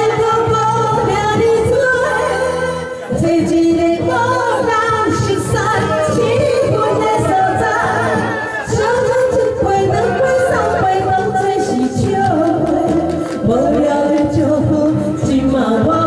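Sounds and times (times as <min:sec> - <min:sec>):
amplified backing music: 0:00.0 - 0:16.0
women singing a duet: 0:00.0 - 0:16.0.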